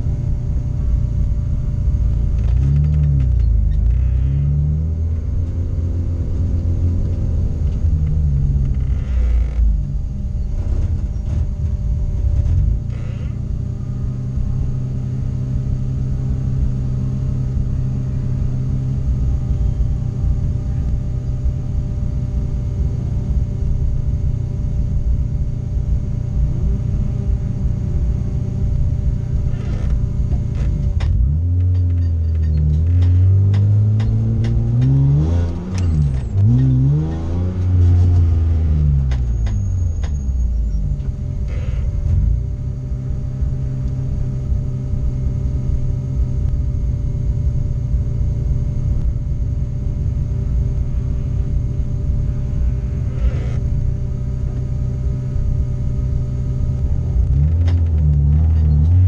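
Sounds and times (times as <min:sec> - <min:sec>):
engine throttle blips: 0:00.0 - 0:59.0
race car engine idling: 0:00.0 - 0:59.0.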